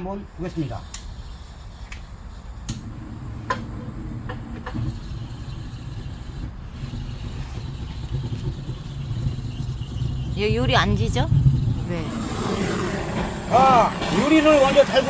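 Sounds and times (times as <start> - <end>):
gas torch flame rushing: 0.8 - 15.0.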